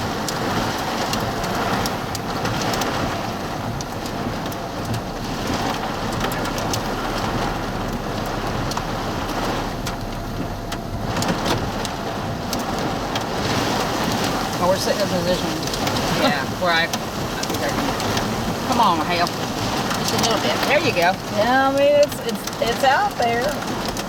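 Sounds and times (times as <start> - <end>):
heavy rain pelting a car: 0.0 - 24.0
small hail ticking: 0.0 - 24.0.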